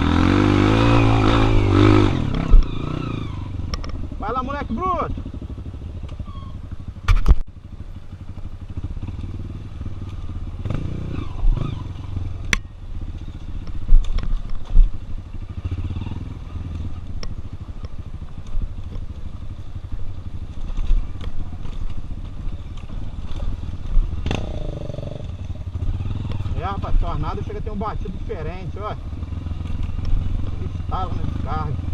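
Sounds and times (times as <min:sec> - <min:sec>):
dirt bike engines revving: 0:00.0 - 0:07.1, 0:08.0 - 0:31.9
exhaust crackling: 0:00.0 - 0:31.9.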